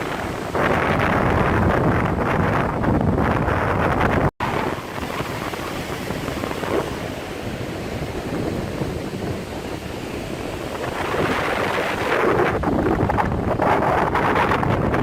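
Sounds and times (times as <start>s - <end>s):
surf washing on beach: 0.0s - 15.0s
wind on microphone: 0.0s - 15.0s.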